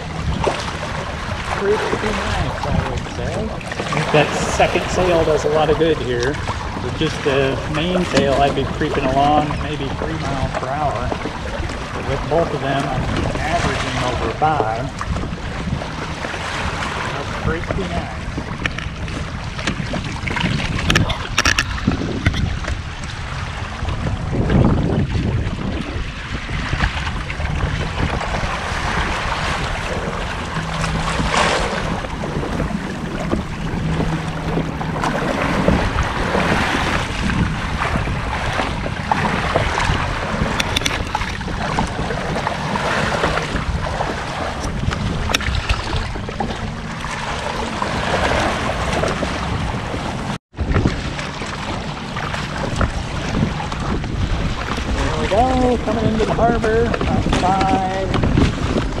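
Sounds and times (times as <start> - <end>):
water rushing along hulls: 0.0 - 59.0
wind buffeting microphone: 0.0 - 59.0.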